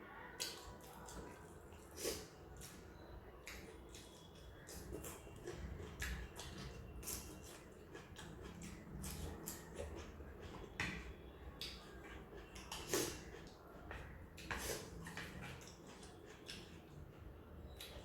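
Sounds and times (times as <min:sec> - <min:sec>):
chewing and lip smacks: 0:00.4 - 0:18.0.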